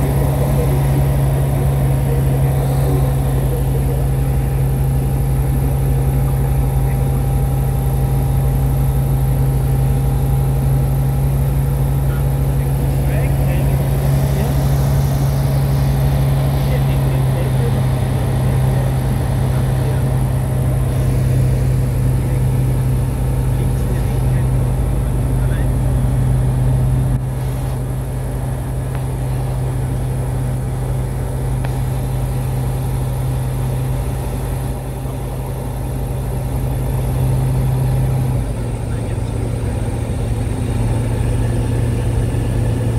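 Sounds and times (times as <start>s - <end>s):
light aircraft engine humming: 0.0s - 42.9s.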